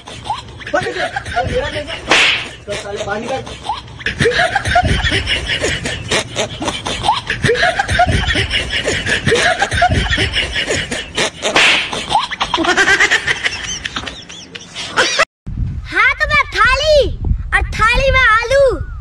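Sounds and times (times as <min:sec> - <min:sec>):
people laughing: 0:00.0 - 0:15.3.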